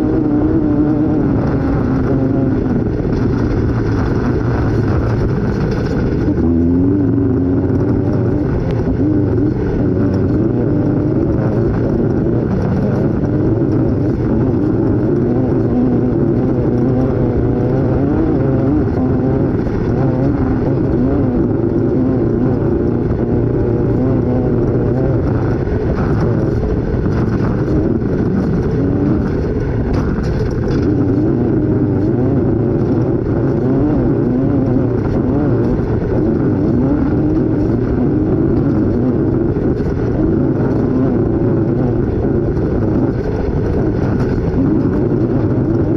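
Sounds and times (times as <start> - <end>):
race vehicle engine revving: 0.0 - 45.9.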